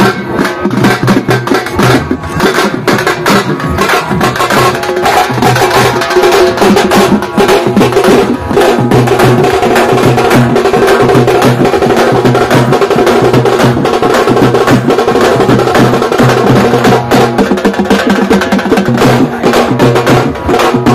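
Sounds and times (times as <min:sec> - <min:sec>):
drum troupe playing fast rhythm: 0:00.0 - 0:20.9.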